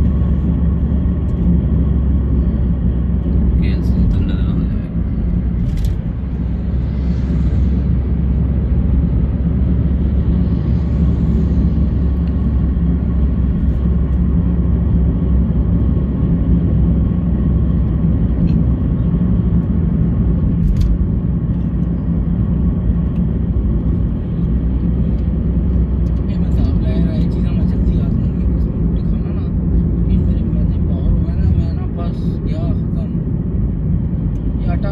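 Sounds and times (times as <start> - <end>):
car road noise: 0.0 - 34.9.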